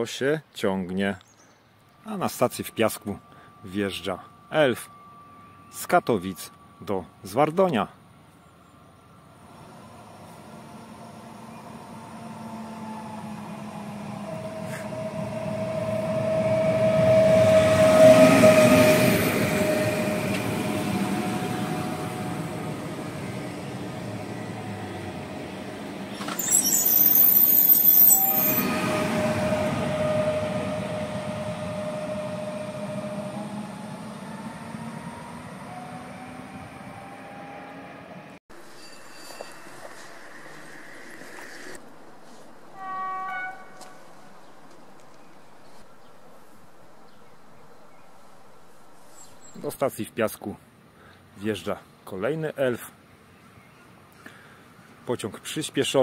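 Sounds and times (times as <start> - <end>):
electric train rumble and whine: 1.8 - 49.8.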